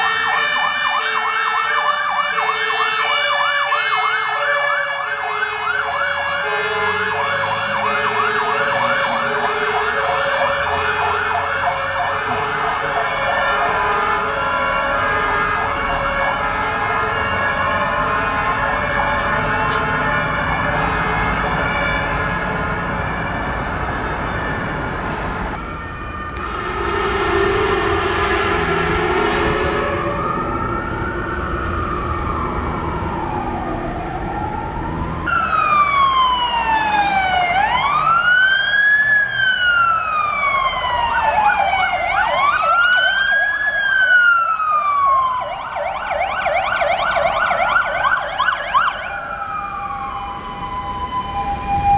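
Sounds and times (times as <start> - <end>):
emergency vehicle sirens: 0.0 - 51.9
wailing siren: 0.0 - 51.9.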